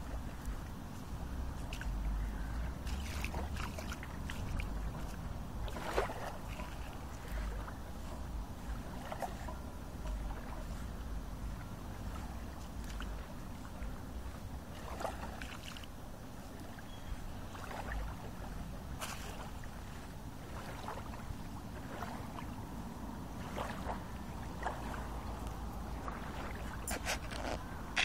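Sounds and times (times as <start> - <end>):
soft water splashes: 0.0 - 28.0
waves lapping at shore: 0.0 - 28.0
wind rumble on microphone: 0.0 - 28.0.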